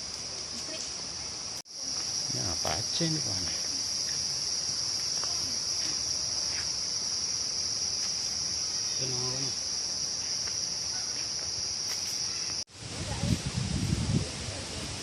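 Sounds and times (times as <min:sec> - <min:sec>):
high-pitched insect drone: 0:00.0 - 0:12.6.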